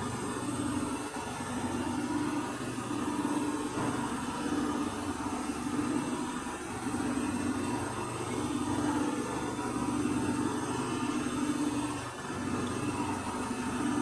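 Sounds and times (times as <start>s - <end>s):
washing machine spinning hum: 0.0s - 14.0s.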